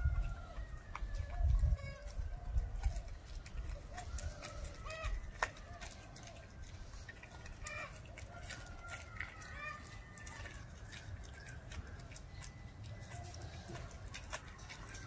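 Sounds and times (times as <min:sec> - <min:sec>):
puppy chewing bone crunching: 0:00.0 - 0:15.0.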